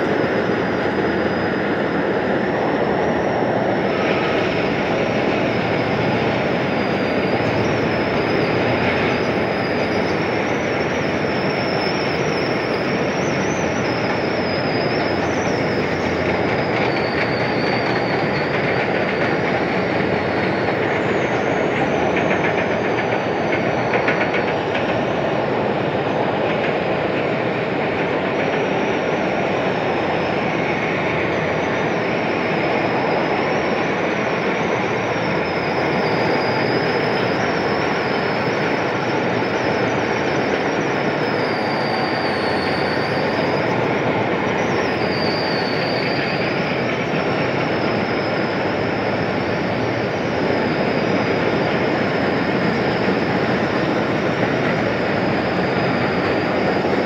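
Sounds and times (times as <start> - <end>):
heavy factory machinery din: 0.0 - 57.0
high wavering squeal: 0.0 - 57.0.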